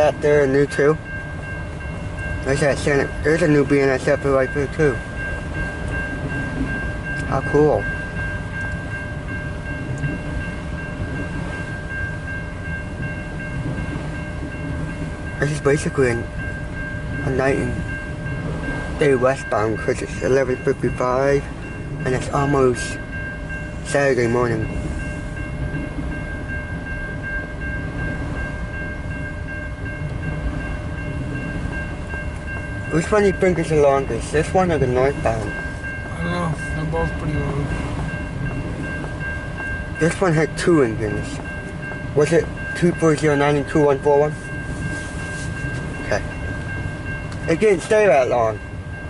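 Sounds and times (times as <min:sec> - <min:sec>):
freight train rumbling past: 0:00.0 - 0:49.0
high ringing tone: 0:00.0 - 0:49.0.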